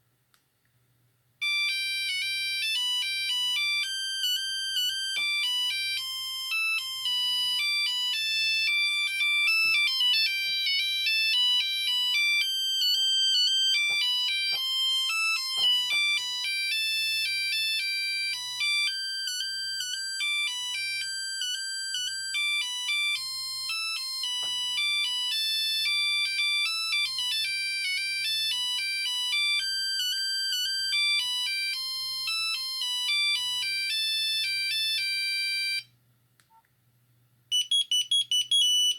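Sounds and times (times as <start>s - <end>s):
synthesized ringtone melody: 1.4s - 35.8s.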